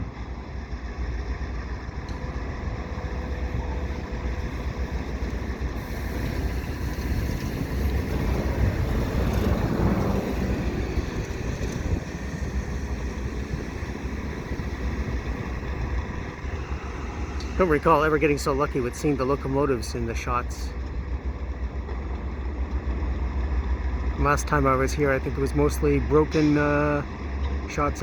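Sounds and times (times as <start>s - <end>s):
road traffic passing: 0.0s - 28.0s
steady low rumble: 0.0s - 28.0s.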